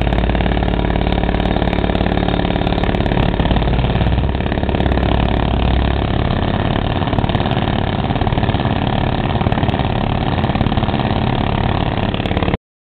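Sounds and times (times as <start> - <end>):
diesel engines idling: 0.0 - 12.6.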